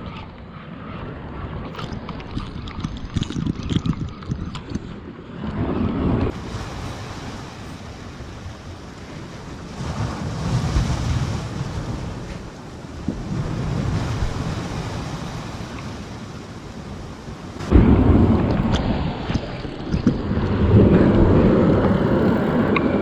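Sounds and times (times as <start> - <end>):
wind rumbling on microphone: 0.0 - 23.0
waves washing against rocks: 1.7 - 23.0.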